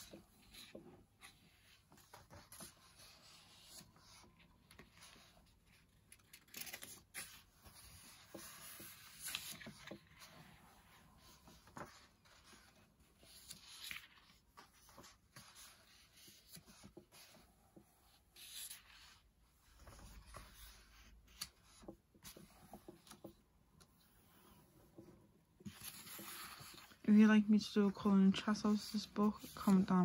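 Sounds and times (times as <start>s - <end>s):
paper pages rustling: 0.0s - 27.1s, 28.7s - 30.0s.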